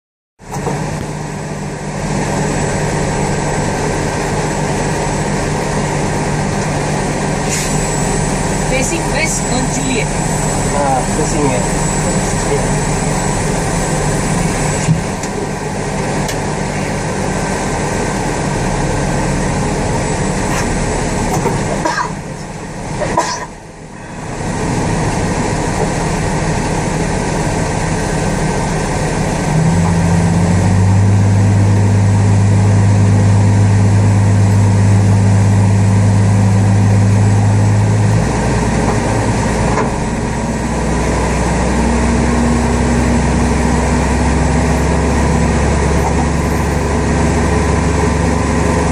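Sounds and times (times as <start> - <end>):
tug engine running: 0.4 - 48.9.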